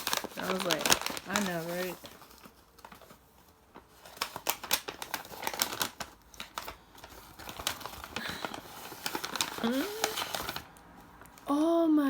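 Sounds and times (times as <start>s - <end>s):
packaging crinkling: 0.0s - 11.5s.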